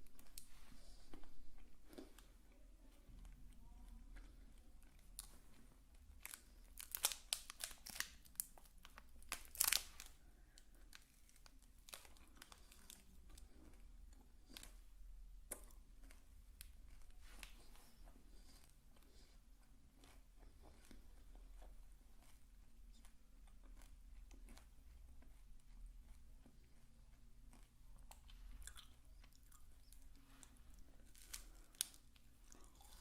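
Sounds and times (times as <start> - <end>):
crinkling and crackling: 0.0 - 33.0.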